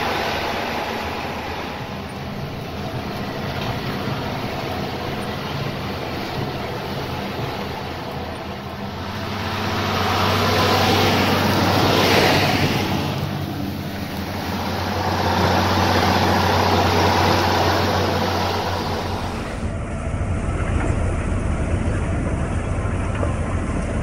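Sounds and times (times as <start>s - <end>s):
tractor diesel engine drone: 0.0s - 24.0s.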